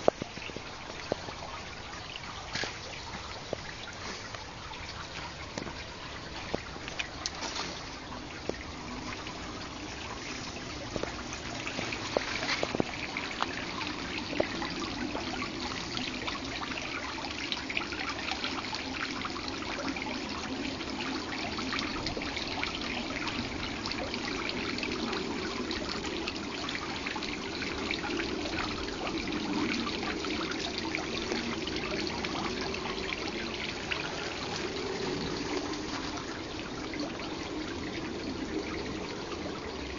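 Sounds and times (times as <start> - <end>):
water feature trickling and splashing: 0.0 - 39.9.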